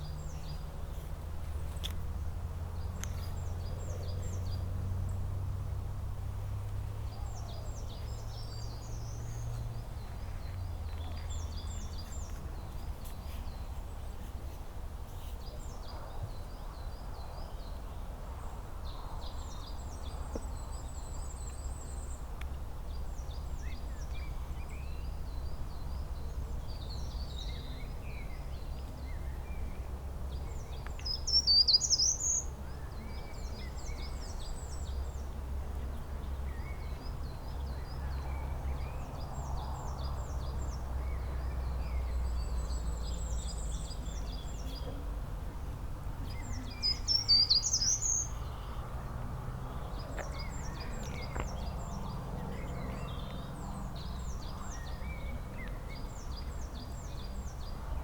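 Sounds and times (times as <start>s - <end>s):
songbirds chirping and singing: 6.6s - 14.4s, 15.4s - 58.0s.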